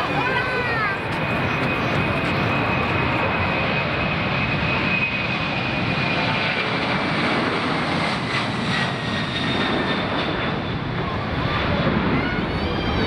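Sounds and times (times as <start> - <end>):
airliner engines passing: 0.0 - 13.0.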